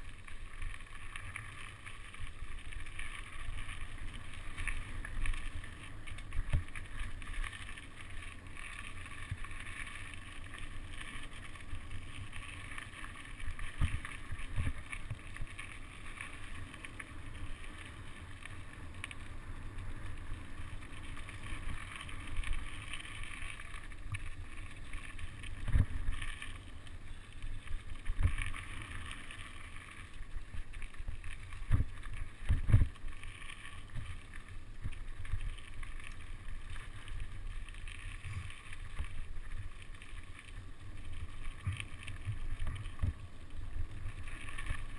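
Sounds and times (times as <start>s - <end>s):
wind and tyre noise: 0.0s - 44.9s.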